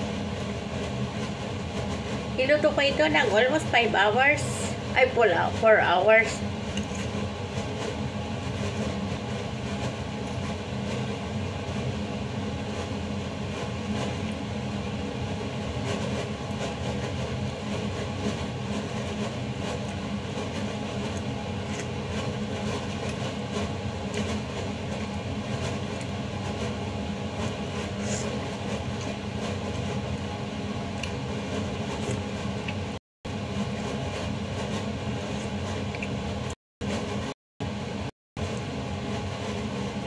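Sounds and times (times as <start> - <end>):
mechanical fan drone: 0.0 - 40.0.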